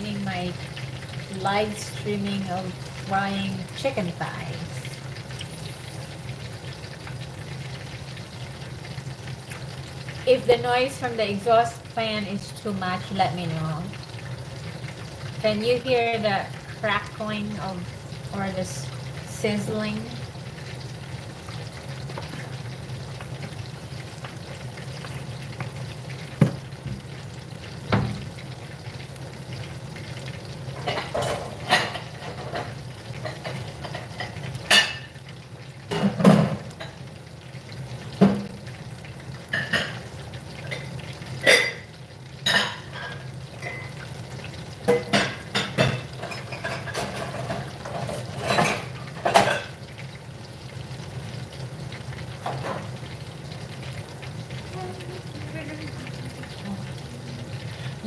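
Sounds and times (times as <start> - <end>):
exhaust fan humming: 0.0 - 45.5, 47.5 - 58.0
chicken sizzling in hot oil: 0.0 - 58.0.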